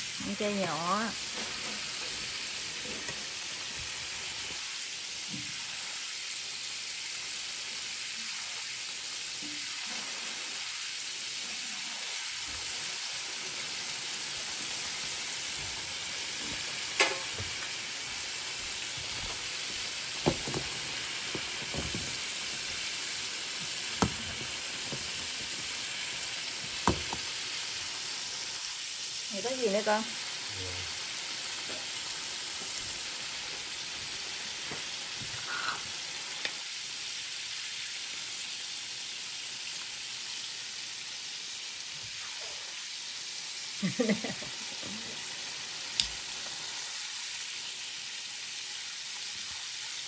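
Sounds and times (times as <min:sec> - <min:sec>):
chicken deep-frying in oil: 0:00.0 - 0:50.0.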